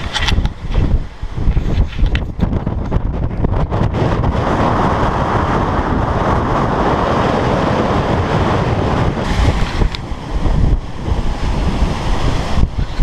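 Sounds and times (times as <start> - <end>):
strong wind rushing: 0.0 - 13.0
wind buffeting microphone: 0.0 - 13.0.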